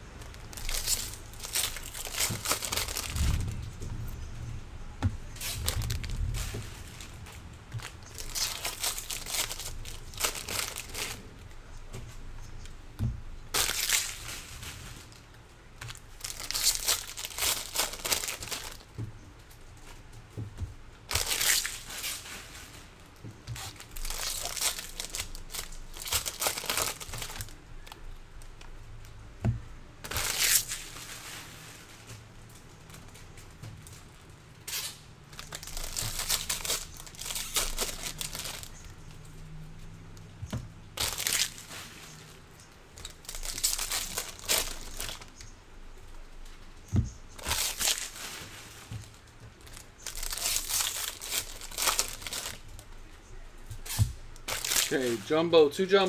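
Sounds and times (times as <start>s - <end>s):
foil wrappers crinkling and tearing: 0.2s - 3.8s, 5.2s - 11.6s, 13.5s - 19.6s, 21.0s - 28.7s, 30.0s - 39.3s, 40.9s - 53.0s, 53.8s - 56.0s.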